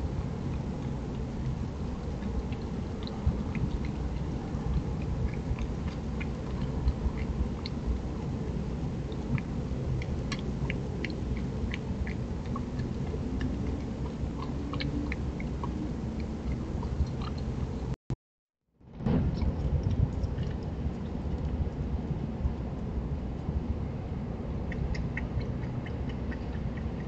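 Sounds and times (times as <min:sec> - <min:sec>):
low rumbling background: 0:00.0 - 0:18.0, 0:18.8 - 0:27.0.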